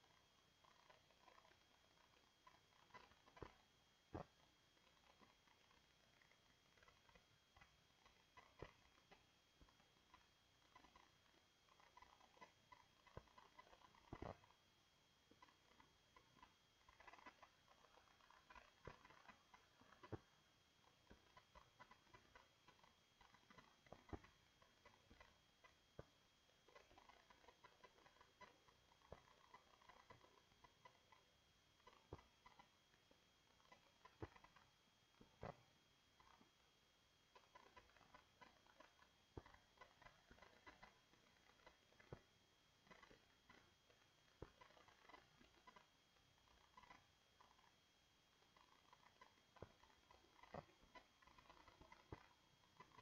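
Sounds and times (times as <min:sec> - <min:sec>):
faint high-pitched whine: 0:00.0 - 0:53.0
small clicks and ticks: 0:00.0 - 0:53.0.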